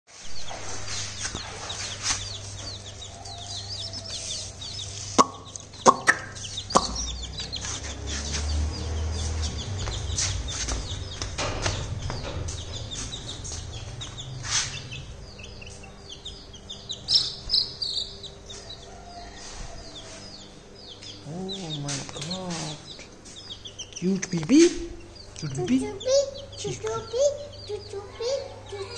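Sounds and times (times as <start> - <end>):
chicks peeping: 0.1 - 28.9.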